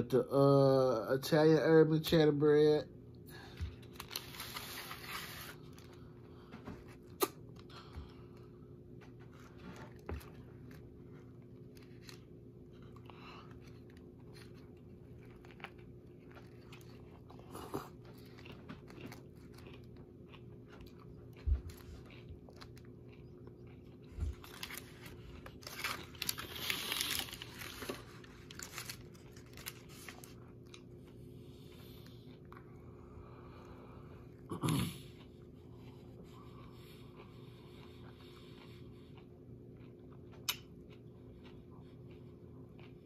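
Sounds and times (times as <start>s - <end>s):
person chewing food: 3.5s - 43.0s.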